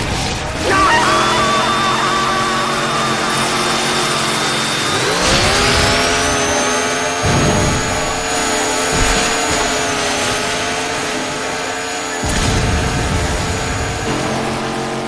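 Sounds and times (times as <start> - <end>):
chainsaw engine revving: 0.1 - 15.0.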